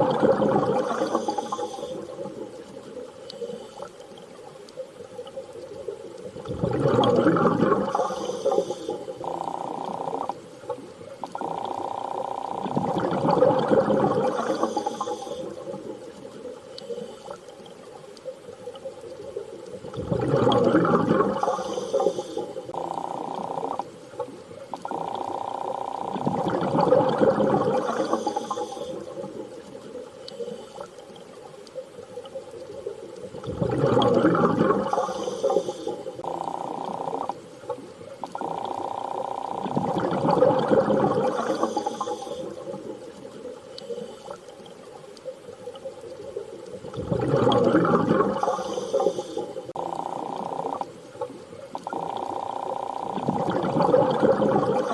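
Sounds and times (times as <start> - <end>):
surging bubbling water underwater: 0.0 - 54.9.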